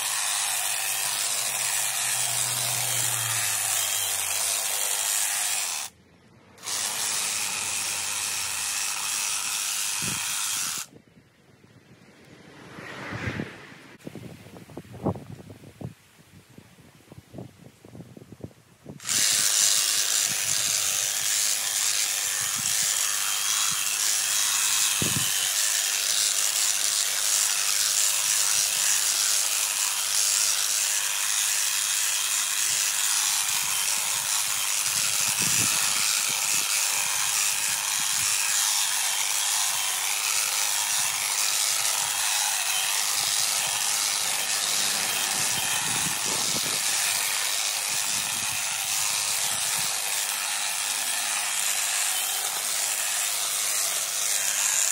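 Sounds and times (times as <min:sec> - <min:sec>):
hedge trimmer cutting: 0:00.0 - 0:10.9, 0:19.0 - 0:54.9.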